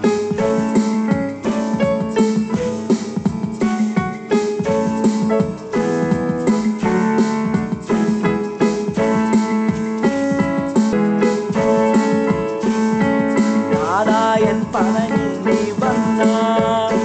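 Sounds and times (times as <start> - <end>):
keyboard playing piano melody: 0.0 - 17.0.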